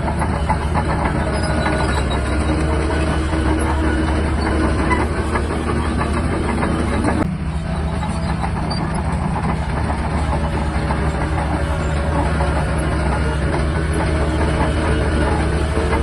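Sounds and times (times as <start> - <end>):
bulldozer diesel engine running: 0.0 - 16.0
steel tracks clattering: 0.0 - 16.0.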